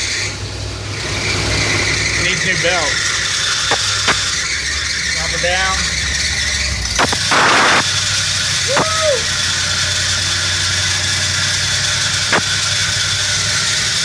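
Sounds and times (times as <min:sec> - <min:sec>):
van engine running: 0:00.0 - 0:14.0.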